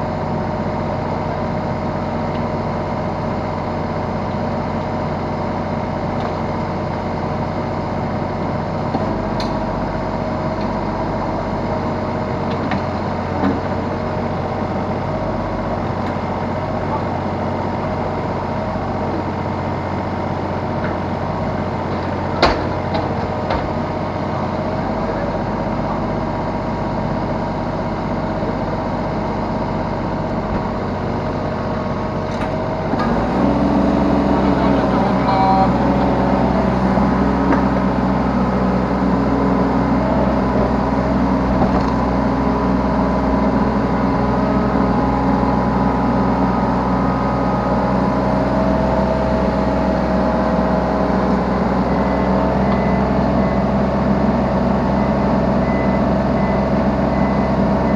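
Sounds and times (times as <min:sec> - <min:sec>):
diesel excavator engine running: 0:00.0 - 0:57.9.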